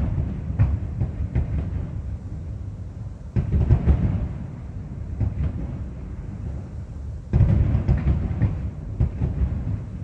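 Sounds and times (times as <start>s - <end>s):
distant fireworks booming: 0.0s - 10.0s.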